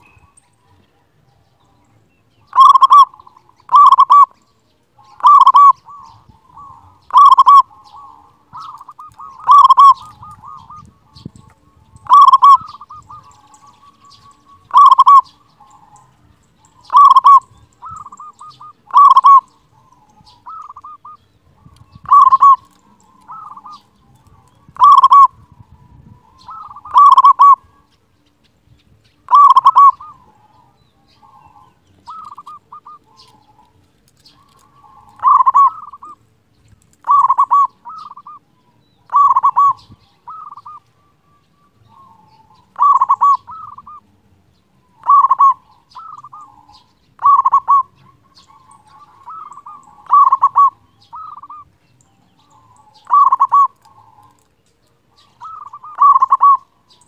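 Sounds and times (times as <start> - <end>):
dove cooing: 2.4 - 4.4, 5.0 - 28.0, 29.3 - 36.2, 36.9 - 57.0.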